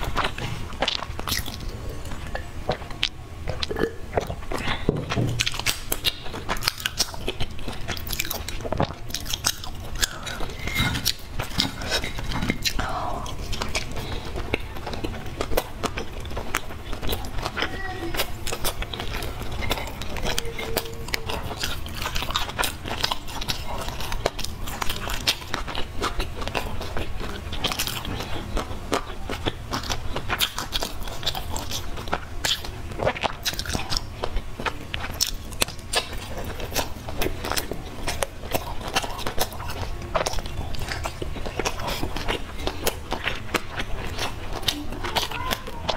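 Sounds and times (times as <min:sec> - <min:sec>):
person chewing crunchy food: 0:00.0 - 0:45.9
steady low hum: 0:00.0 - 0:45.9.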